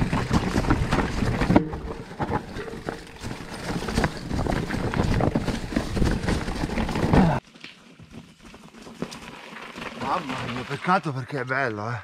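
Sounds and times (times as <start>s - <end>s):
bike tyres crunching over rocks: 0.0s - 11.3s.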